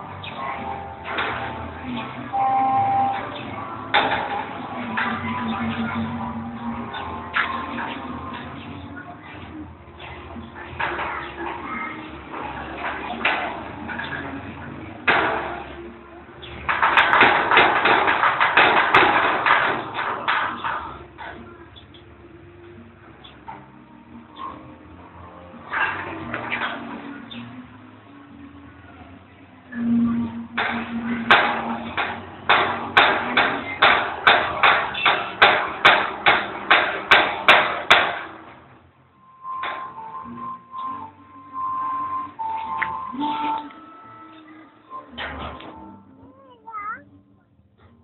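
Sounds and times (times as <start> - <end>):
metal gate rattling: 0.0 - 28.9, 29.9 - 46.9.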